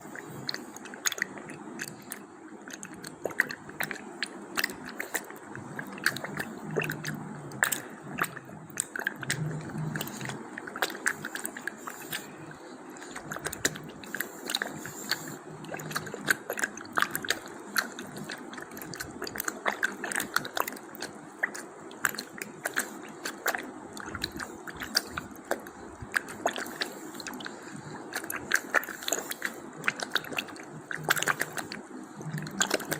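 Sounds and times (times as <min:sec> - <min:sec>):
steady water rush: 0:00.0 - 0:32.9
wet crackle of pops and clicks: 0:00.0 - 0:32.9.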